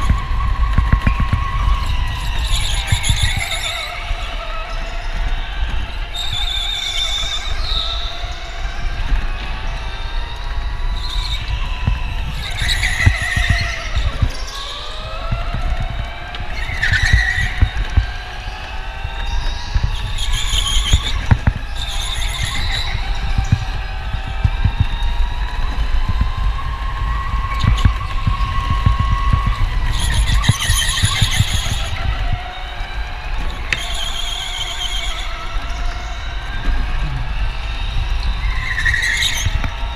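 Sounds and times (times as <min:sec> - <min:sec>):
electric go-kart motor whining: 0:00.0 - 0:39.9.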